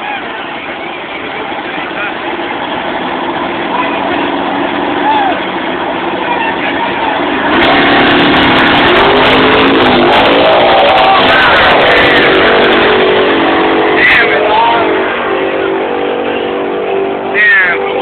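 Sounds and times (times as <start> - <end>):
voices: 0.0 - 8.6, 10.1 - 18.0
loud racing engine: 0.0 - 18.0.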